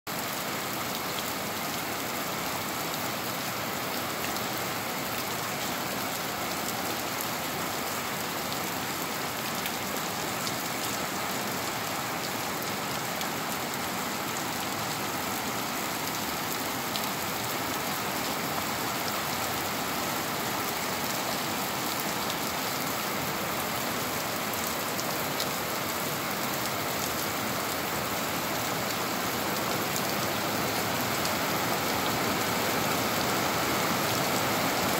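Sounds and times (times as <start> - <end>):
rain on concrete street: 0.1 - 34.9.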